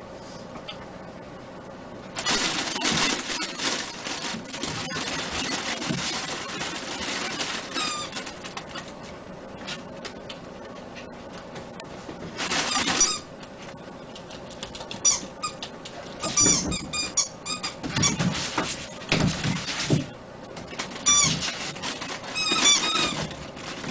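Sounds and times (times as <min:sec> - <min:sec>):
puppies scuffling and bumping: 0:02.2 - 0:23.9.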